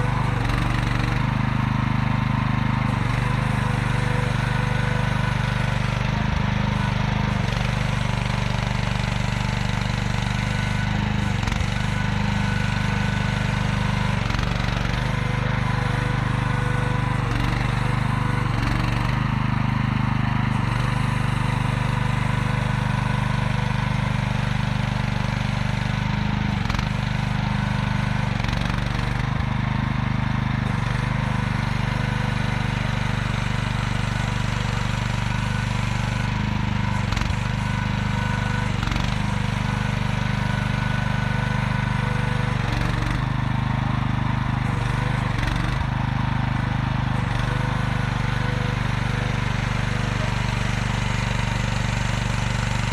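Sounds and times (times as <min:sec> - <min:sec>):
mini excavator engine running: 0:00.0 - 0:52.9.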